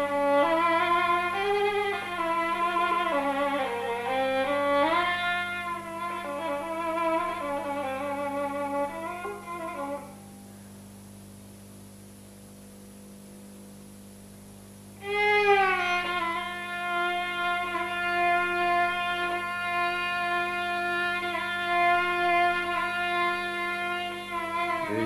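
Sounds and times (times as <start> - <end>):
bowed string instrument melody: 0.0 - 10.3, 15.0 - 25.0
faint low hum: 0.0 - 25.0.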